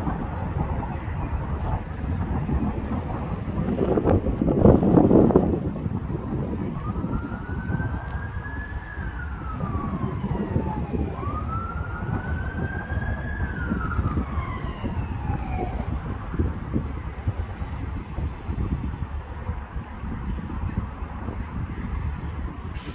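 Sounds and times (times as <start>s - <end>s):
emergency siren wailing: 0.0s - 22.9s
wind noise on microphone: 0.0s - 22.9s.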